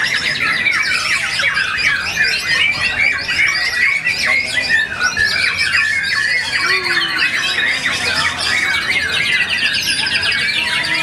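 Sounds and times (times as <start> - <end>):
rapid bird trill: 0.0 - 11.0
songbird whistling and chirping: 0.0 - 11.0.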